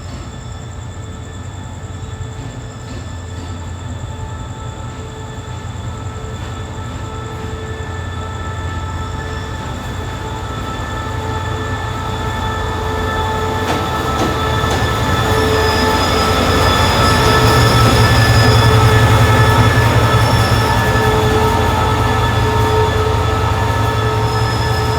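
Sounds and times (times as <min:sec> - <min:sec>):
diesel train engine rumble: 0:00.0 - 0:24.9
high-pitched wheel squeal: 0:00.1 - 0:24.9.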